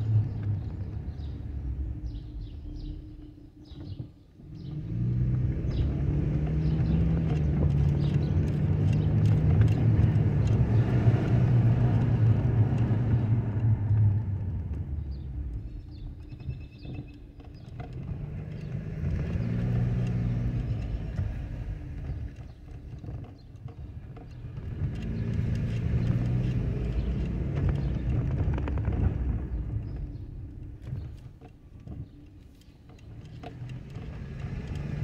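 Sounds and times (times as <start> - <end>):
car engine: 0.0 - 35.0
road noise inside car: 0.0 - 35.0.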